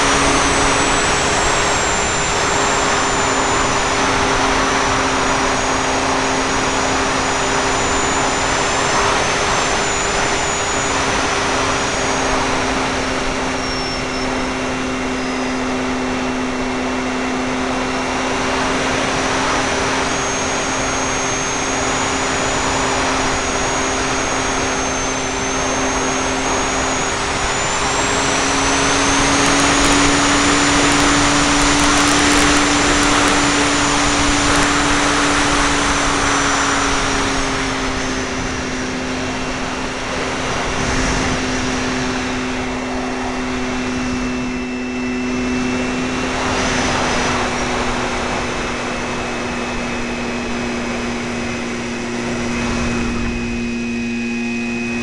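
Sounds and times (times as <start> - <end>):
model plane motor whining: 0.0 - 55.0.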